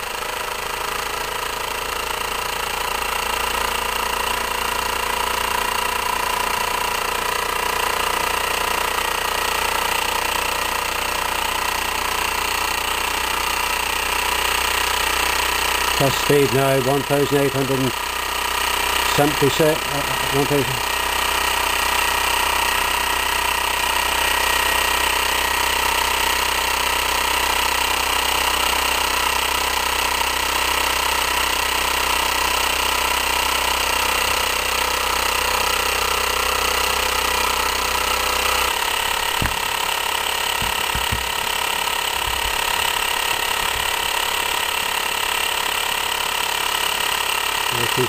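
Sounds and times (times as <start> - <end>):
engine mechanical clatter: 0.0 - 48.0.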